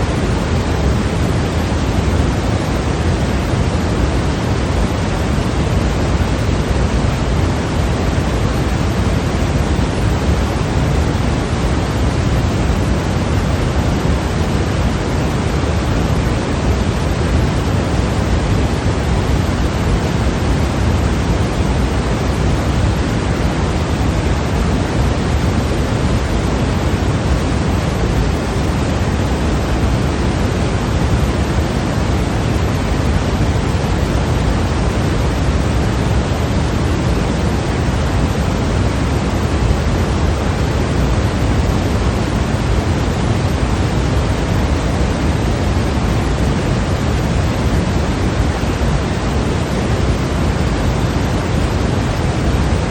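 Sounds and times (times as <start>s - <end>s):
deep even hiss noise: 0.0s - 52.9s.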